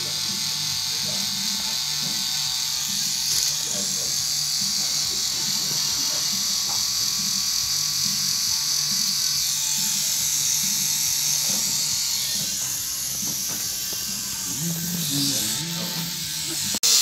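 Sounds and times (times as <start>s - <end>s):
tattoo machine buzzing: 0.0s - 17.0s.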